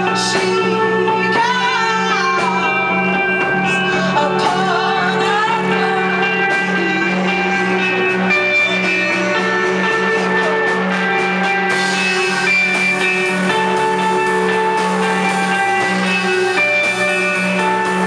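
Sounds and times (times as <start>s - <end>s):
bass guitar: 0.0s - 18.0s
drums: 0.0s - 18.0s
sustained electric guitar notes: 0.0s - 18.0s.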